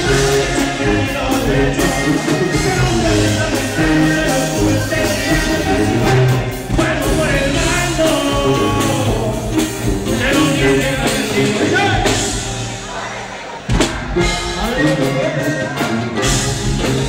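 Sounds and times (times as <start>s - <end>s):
guitars: 0.0s - 17.0s
lead vocal singing: 0.0s - 17.0s
live band music: 0.0s - 17.0s
tuba bass: 0.0s - 17.0s.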